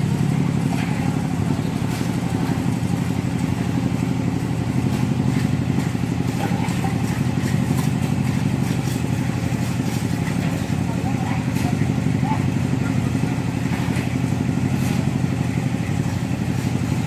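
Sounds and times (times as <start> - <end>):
engine running with rapid throb: 0.0 - 17.0.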